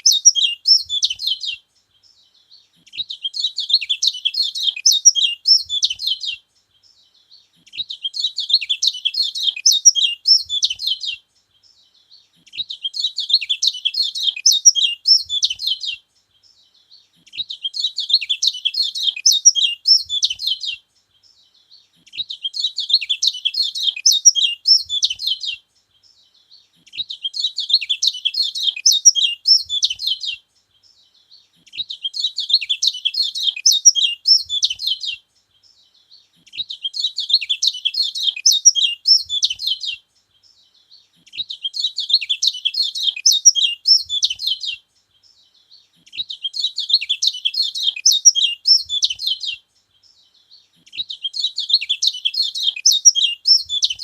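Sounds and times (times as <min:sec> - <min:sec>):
bird twittering: 0:00.0 - 0:01.6, 0:02.5 - 0:07.0, 0:07.6 - 0:11.2, 0:12.4 - 0:16.0, 0:16.9 - 0:20.8, 0:22.0 - 0:25.6, 0:26.8 - 0:31.0, 0:31.6 - 0:54.0.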